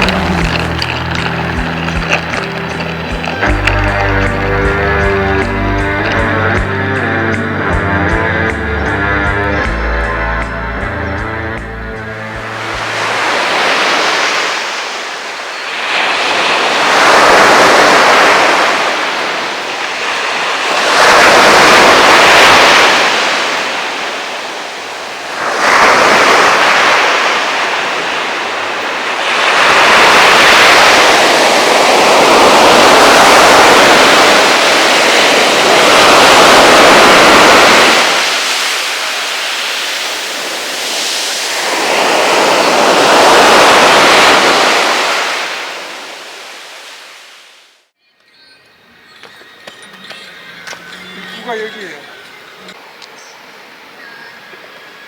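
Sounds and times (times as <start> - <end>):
ocean waves breaking: 0.0 - 47.8, 48.8 - 55.0.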